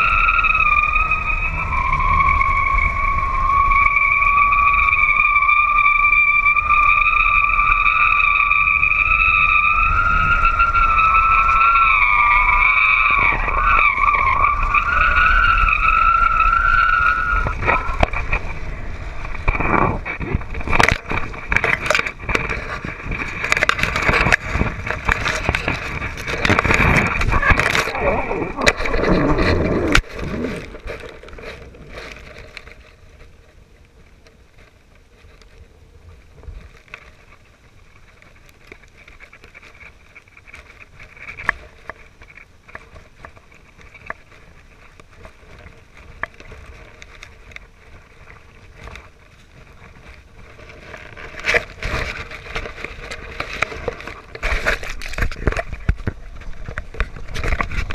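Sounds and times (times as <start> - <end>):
grass and leaves rustling: 0.0 - 57.9.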